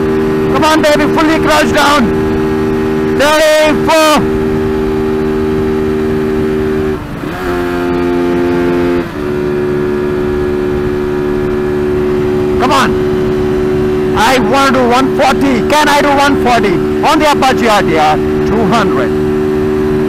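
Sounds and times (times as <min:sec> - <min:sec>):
motorcycle engine running: 0:00.0 - 0:20.0
wind noise: 0:00.0 - 0:20.0.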